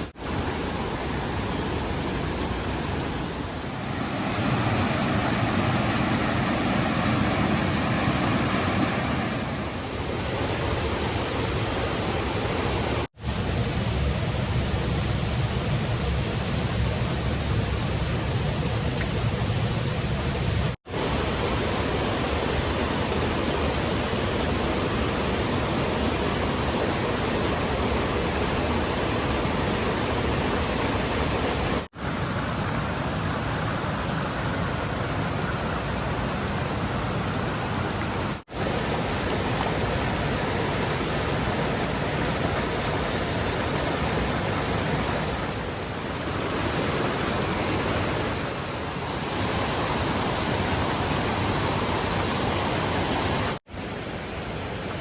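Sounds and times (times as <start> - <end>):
stream rushing over rocks: 0.0 - 13.1, 20.9 - 55.0.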